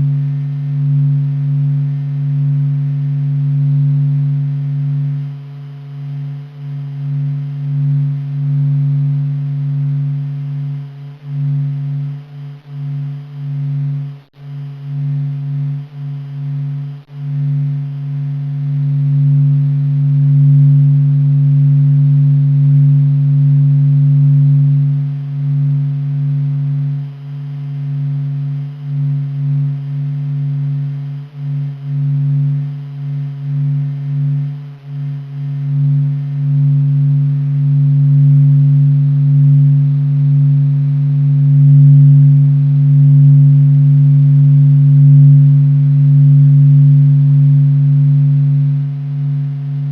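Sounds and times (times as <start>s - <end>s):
deep steady drone: 0.0s - 49.9s
faint tone: 0.0s - 49.9s.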